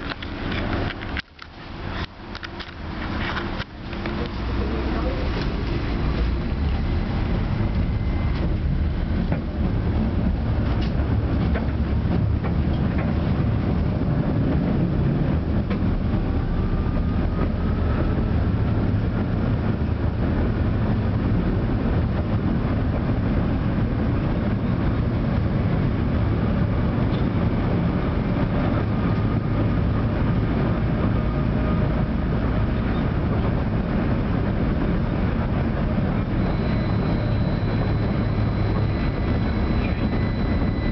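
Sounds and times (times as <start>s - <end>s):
faint whine: 0.0s - 40.9s
tram wheels rumbling on rails: 0.0s - 40.9s.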